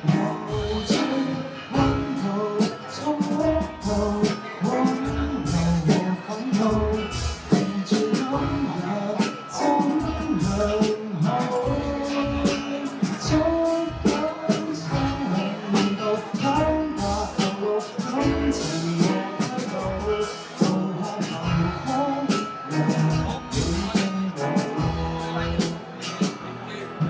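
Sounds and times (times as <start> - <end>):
guitar: 0.0 - 27.0
person singing: 0.0 - 27.0
steady drum beat: 0.0 - 27.0.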